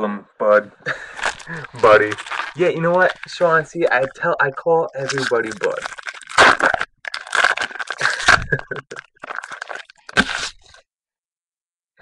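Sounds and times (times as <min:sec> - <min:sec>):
plastic wrapper tearing and crinkling: 0:00.9 - 0:10.8.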